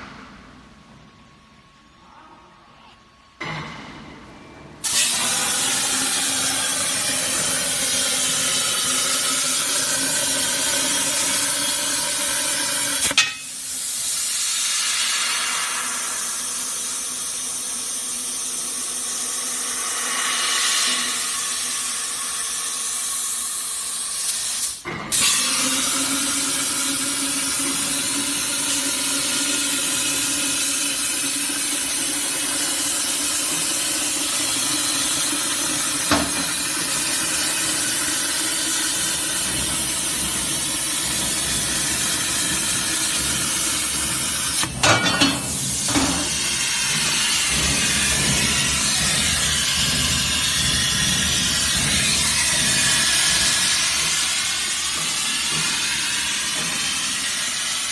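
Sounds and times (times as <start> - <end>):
plasma torch hissing: 4.8 - 29.4, 30.0 - 44.8, 45.4 - 57.9.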